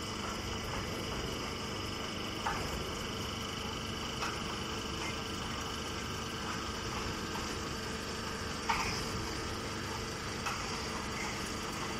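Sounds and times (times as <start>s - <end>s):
baling machine humming: 0.0s - 11.9s.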